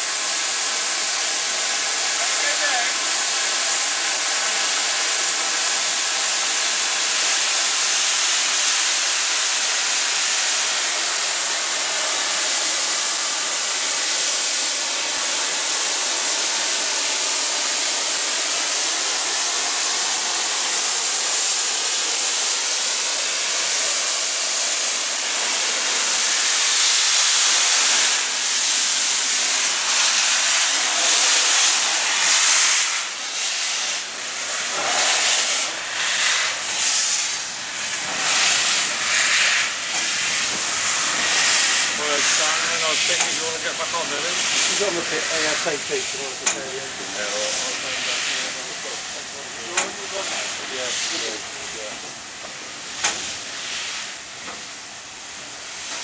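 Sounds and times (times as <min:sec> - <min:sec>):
steam hissing from locomotive: 0:00.0 - 0:56.0.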